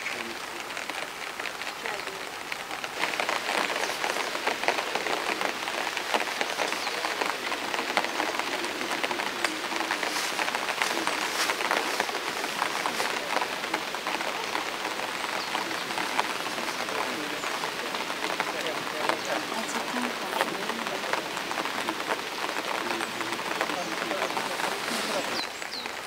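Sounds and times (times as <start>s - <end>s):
rain pattering on stone: 0.0s - 26.0s.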